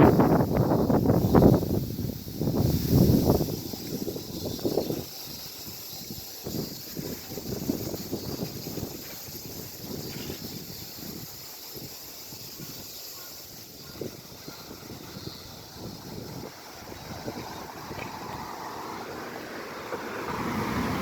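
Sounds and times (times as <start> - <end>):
steady high hiss: 0.0 - 21.0
wind buffeting microphone: 0.0 - 21.0.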